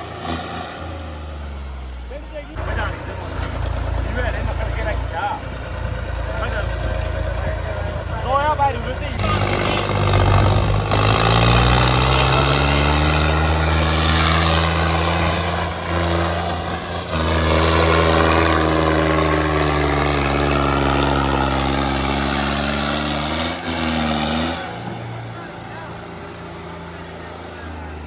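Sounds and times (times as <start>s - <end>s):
tractor diesel engine revving: 0.0s - 28.0s.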